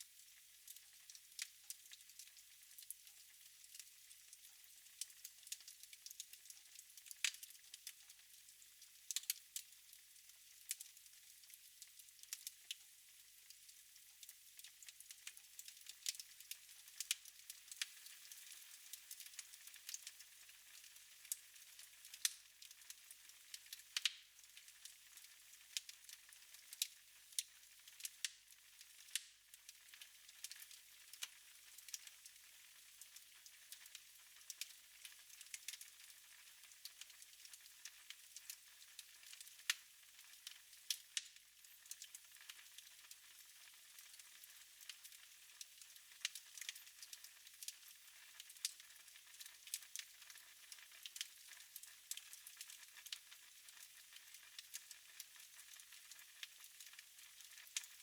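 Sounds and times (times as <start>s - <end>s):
fire crackling and popping: 0.2s - 3.9s, 4.7s - 7.8s, 10.7s - 10.9s, 14.2s - 58.0s.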